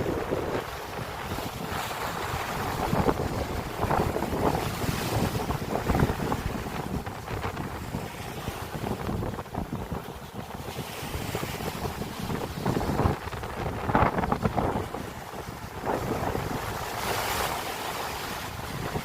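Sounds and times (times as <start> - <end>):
sea waves: 0.0 - 19.0
wind buffeting microphone: 0.0 - 19.0.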